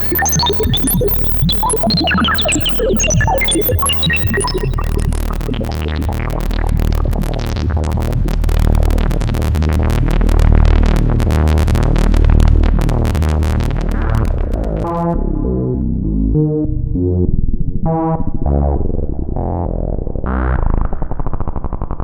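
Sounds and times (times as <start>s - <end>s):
analog synthesizer bass: 0.0s - 22.0s.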